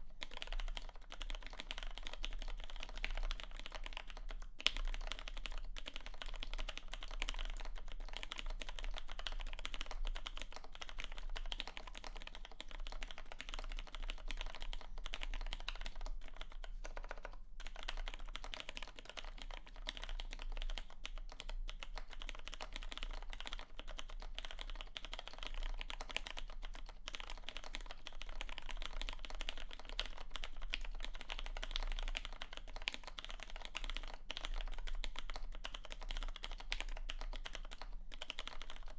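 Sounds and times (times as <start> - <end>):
fast typing on mechanical keyboard: 0.2 - 38.9.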